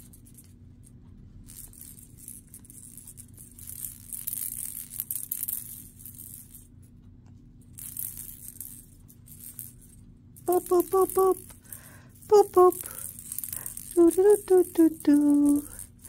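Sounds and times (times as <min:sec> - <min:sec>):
rattle toy shaking: 0:00.0 - 0:06.9, 0:07.6 - 0:16.0
steady low hum: 0:00.0 - 0:16.0.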